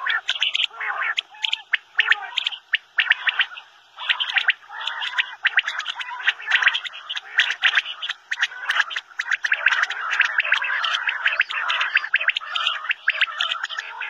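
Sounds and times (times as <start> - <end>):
quail calling: 0.0 - 14.0.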